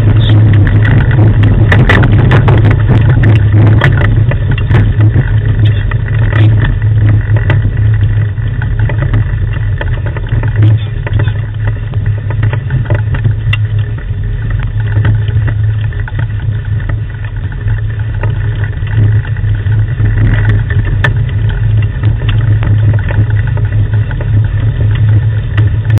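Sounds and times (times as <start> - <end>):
rig rumbling over gravel: 0.0 - 26.0.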